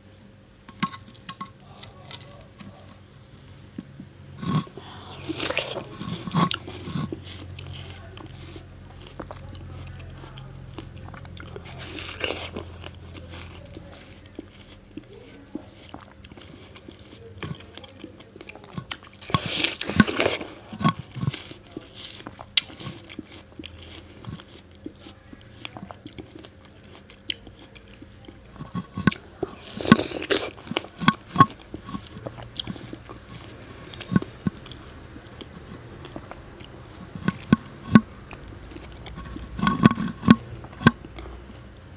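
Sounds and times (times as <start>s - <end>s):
chewing clicks: 0.0s - 41.9s
crisp bites of watermelon: 0.8s - 41.8s.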